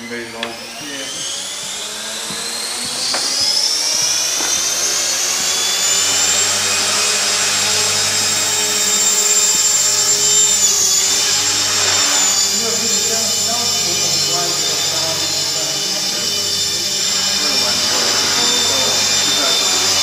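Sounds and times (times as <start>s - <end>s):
rc helicopter motor whine: 0.0s - 20.0s.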